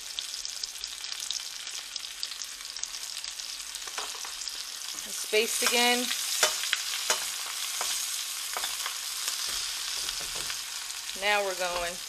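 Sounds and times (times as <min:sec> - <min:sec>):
fish frying with crackles: 0:00.0 - 0:12.0.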